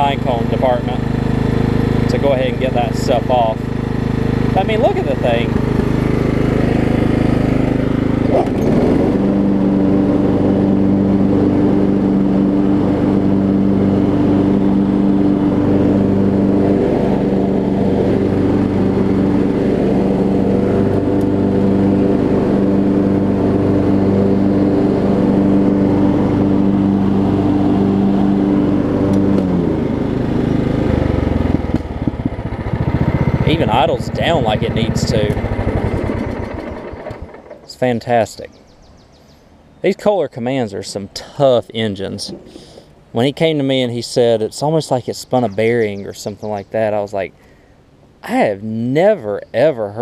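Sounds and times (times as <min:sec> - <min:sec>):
riding mower engine running: 0:00.0 - 0:50.0.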